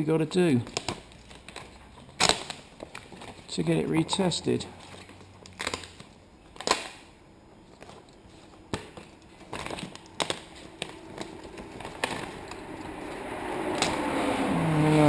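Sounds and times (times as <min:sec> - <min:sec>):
vinyl film taps and crinkles: 0:00.6 - 0:07.0, 0:07.6 - 0:13.2.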